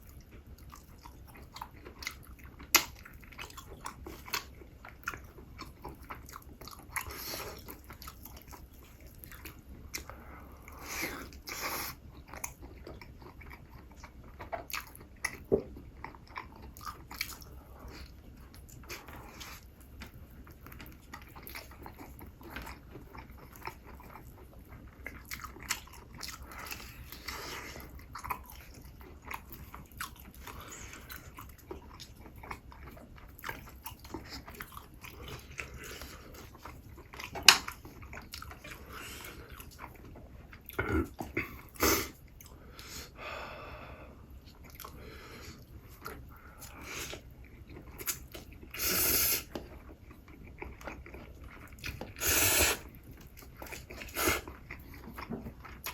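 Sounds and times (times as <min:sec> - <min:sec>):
person chewing close up: 0:00.0 - 0:43.0, 0:44.2 - 0:55.9.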